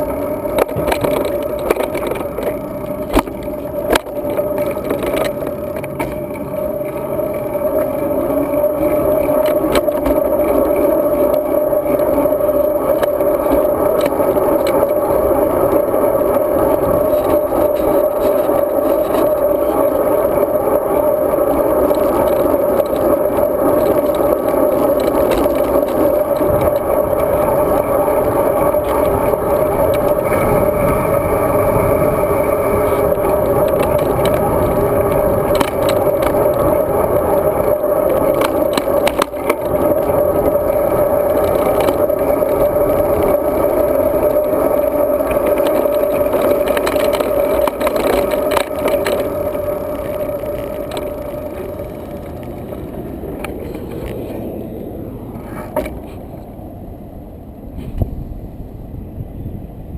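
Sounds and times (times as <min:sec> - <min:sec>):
bike clicks and rattles: 0:00.0 - 0:56.6
wind and road noise: 0:00.0 - 0:59.9.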